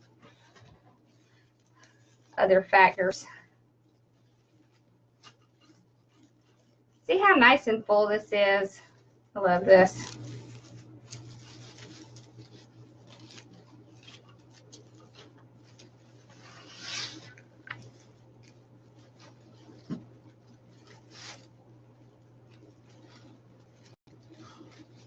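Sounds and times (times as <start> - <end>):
rustling and crinkling of mesh: 0.0 - 2.4, 3.8 - 7.1, 8.8 - 25.0
low steady hum: 0.0 - 25.0.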